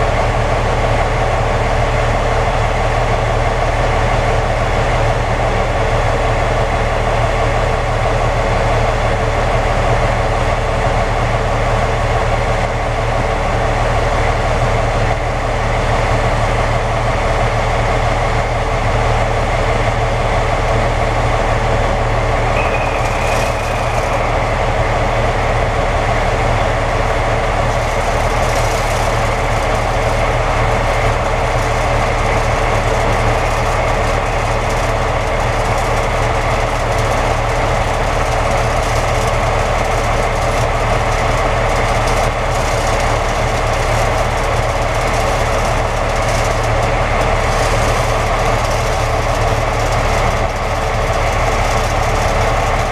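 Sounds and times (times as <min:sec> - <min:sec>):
diesel locomotives idling: 0:00.0 - 0:52.9.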